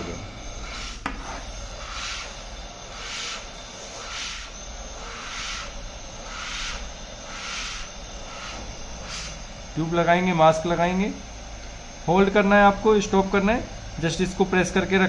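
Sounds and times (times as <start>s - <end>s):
ventilator air flow hissing: 0.0s - 15.0s.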